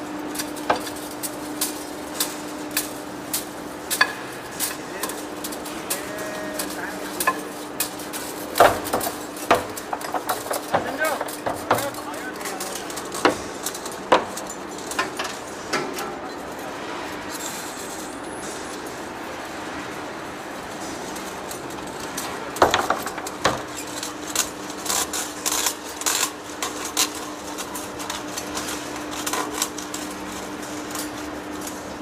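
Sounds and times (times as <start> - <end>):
heavy machinery humming: 0.0 - 32.0
metallic clanks and clicks: 0.3 - 19.0, 20.8 - 32.0.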